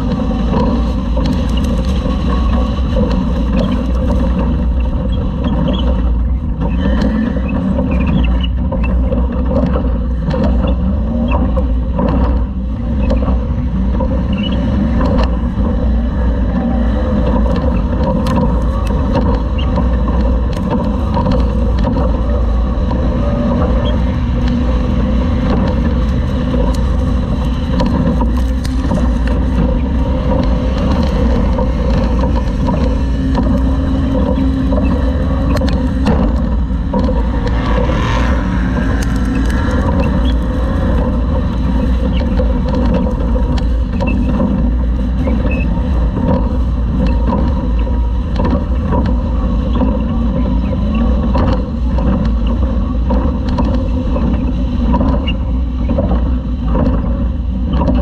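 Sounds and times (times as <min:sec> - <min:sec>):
chassis clicks and knocks: 0:00.0 - 0:58.0
drive noise: 0:00.0 - 0:58.0
truck engine running under load: 0:00.0 - 0:58.0.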